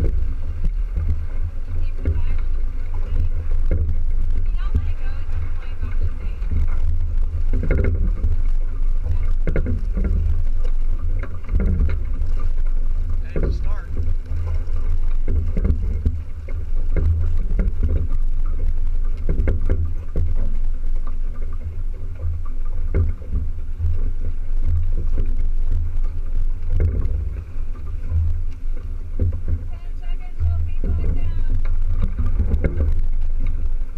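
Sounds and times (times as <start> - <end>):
water splashing against hull: 0.0 - 33.9
wind rumbling on microphone: 0.0 - 33.9.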